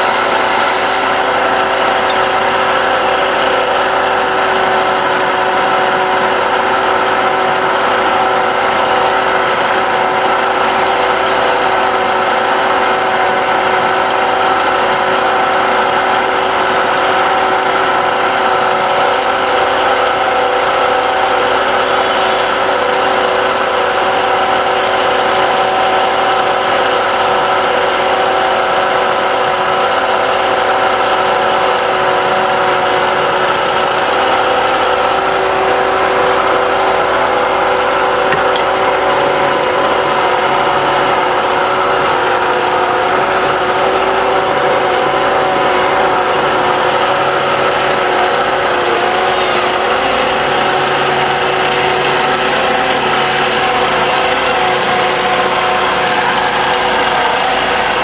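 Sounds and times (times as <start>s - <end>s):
wood lathe motor humming: 0.0s - 58.0s.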